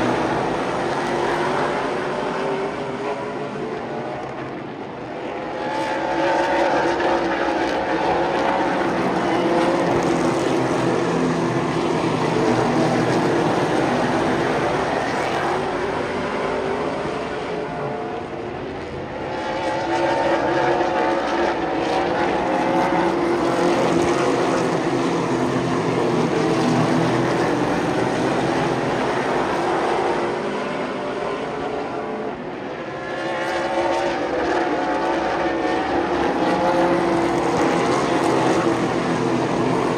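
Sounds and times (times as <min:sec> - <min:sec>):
stock cars racing: 0:00.0 - 0:39.9.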